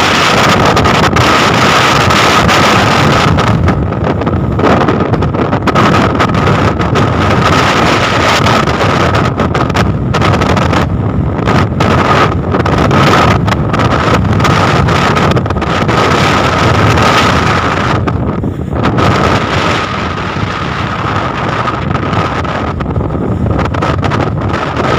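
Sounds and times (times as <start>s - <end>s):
boat engine running: 0.0s - 24.9s
steady high whine: 0.0s - 24.9s
wind buffeting microphone: 0.0s - 24.9s.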